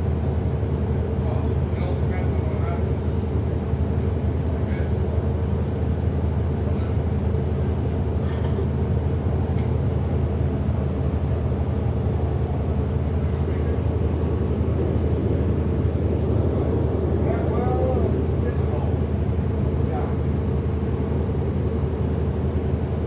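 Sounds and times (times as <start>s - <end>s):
road noise: 0.0s - 22.8s
bus drivetrain hum: 0.0s - 23.0s.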